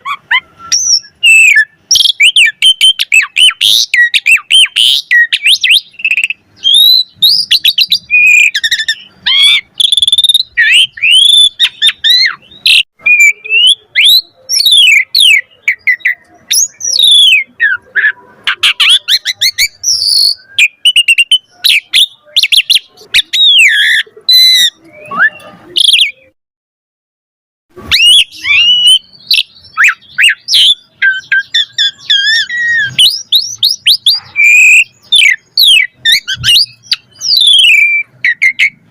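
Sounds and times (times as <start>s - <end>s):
starling singing varied song: 0.0s - 26.3s, 27.7s - 38.9s.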